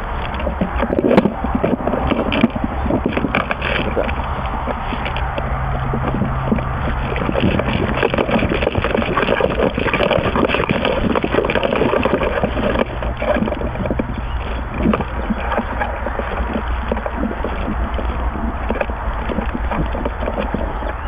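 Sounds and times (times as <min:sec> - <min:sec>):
low steady hum: 0:00.0 - 0:21.0
rustling against microphone: 0:00.0 - 0:21.0.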